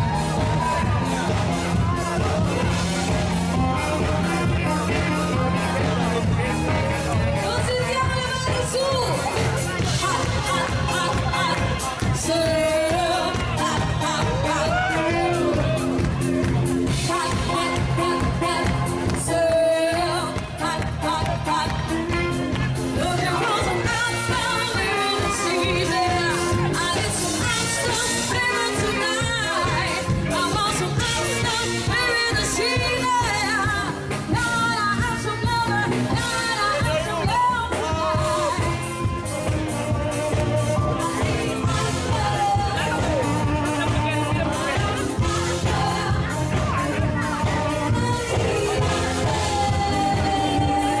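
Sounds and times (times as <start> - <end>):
band playing pop song: 0.0 - 51.0
lead singer singing: 0.0 - 51.0.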